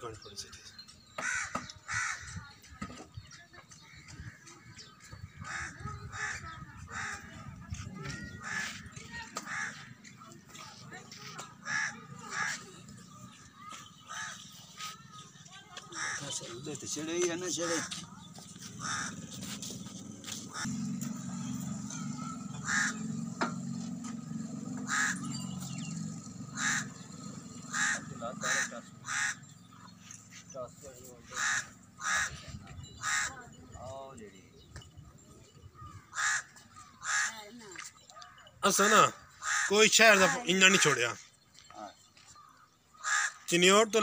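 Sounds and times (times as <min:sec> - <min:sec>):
bird calling: 0:03.3 - 0:44.0.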